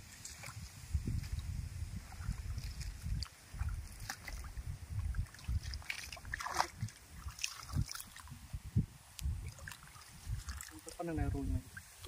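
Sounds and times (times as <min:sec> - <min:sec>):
water sloshing and splashing: 0:00.0 - 0:08.6, 0:09.2 - 0:12.0.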